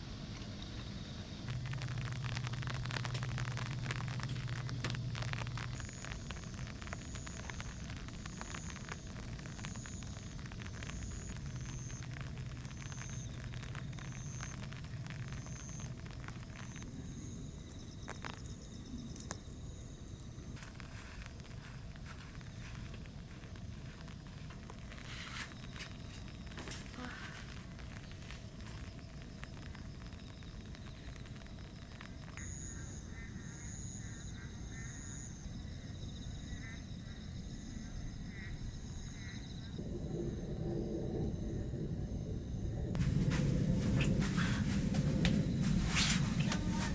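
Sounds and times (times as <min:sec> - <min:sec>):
rain patter: 0:00.0 - 0:33.6, 0:42.9 - 0:46.9
crackling sound: 0:00.0 - 0:34.9, 0:42.7 - 0:46.9
insects buzzing: 0:00.0 - 0:40.6, 0:41.2 - 0:46.9.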